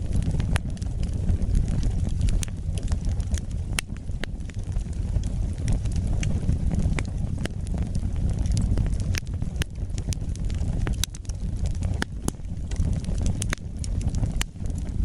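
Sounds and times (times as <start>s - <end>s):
fire crackling and popping: 0.0s - 15.0s
wood fire flames rushing: 0.0s - 15.0s.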